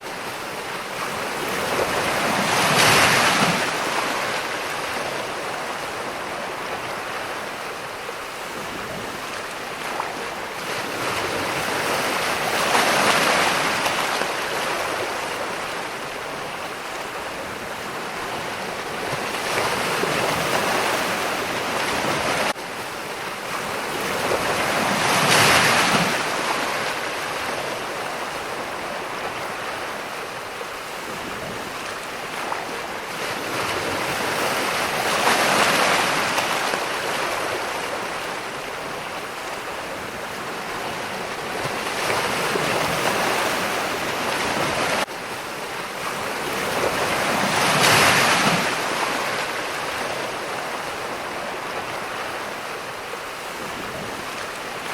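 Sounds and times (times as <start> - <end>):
ocean waves breaking: 0.0 - 54.9.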